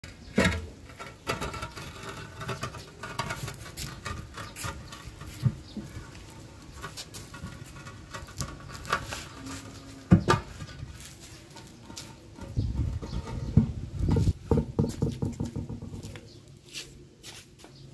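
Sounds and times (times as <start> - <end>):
concrete basin scraping on floor: 0.1 - 16.3.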